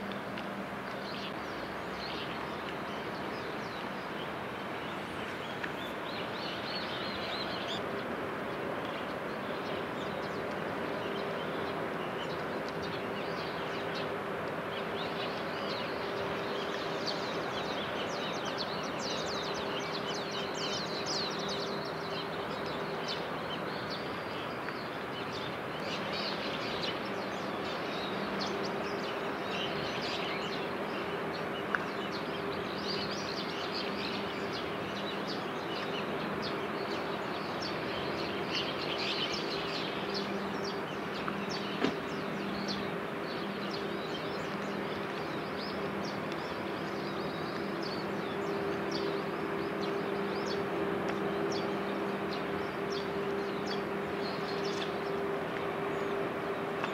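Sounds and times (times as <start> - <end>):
steady low hum: 0.0 - 56.9
birds chirping: 0.9 - 56.9.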